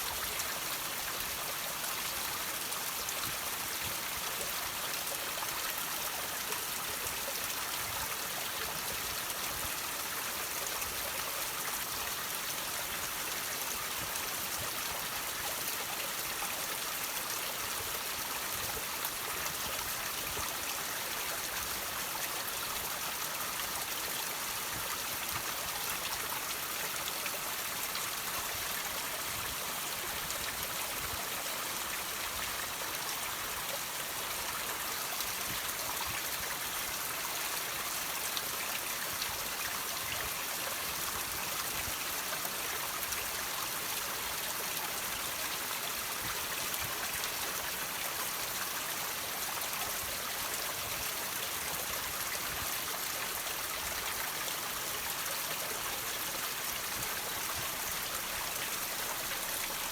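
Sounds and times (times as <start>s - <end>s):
water trickling over rocks: 0.0s - 59.9s.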